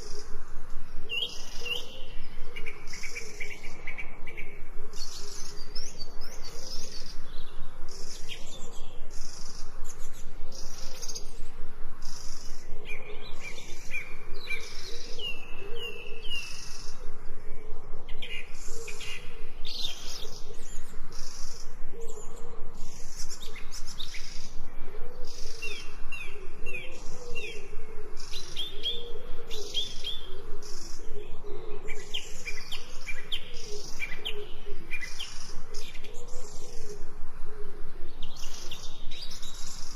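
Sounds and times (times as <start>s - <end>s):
birds chirping: 0.0s - 39.9s
insect chorus: 0.0s - 39.9s.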